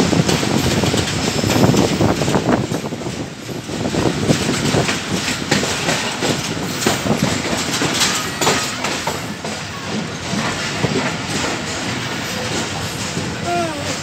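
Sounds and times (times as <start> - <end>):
train coach rumble: 0.0 - 14.0
wheels clattering over rails: 0.0 - 14.0.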